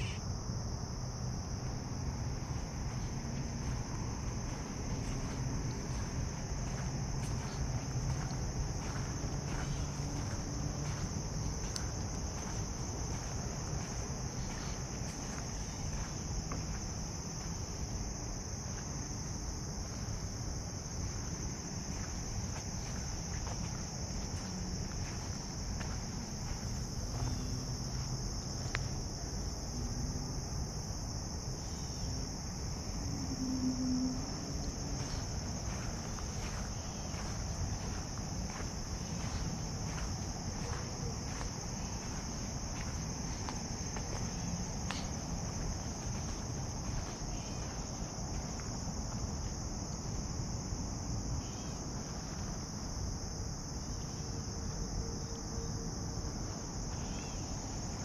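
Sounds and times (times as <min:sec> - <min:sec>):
high-pitched insect chorus: 0:00.0 - 0:58.0
footsteps on dirt path: 0:00.8 - 0:29.8, 0:31.2 - 0:50.7, 0:56.4 - 0:58.0.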